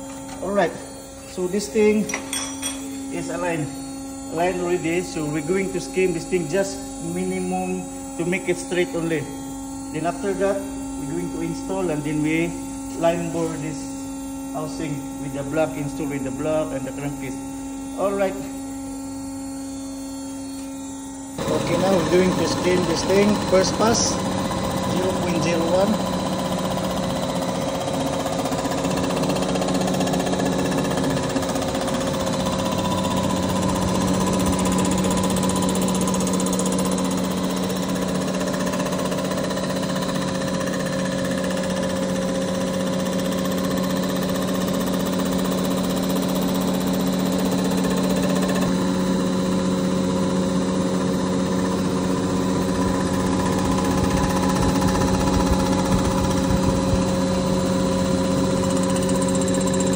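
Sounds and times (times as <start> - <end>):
milling machine cutting metal: 0.0 - 59.9.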